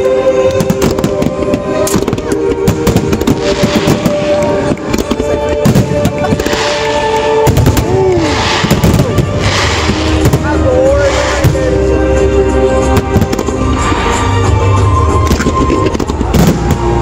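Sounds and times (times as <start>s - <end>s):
fireworks bangs and crackling: 0.4s - 17.0s.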